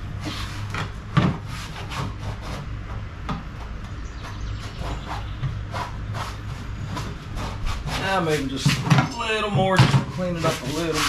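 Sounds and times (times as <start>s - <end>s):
steady low hum: 0.0s - 11.0s
scrapes and knocks on plastic: 0.2s - 11.0s.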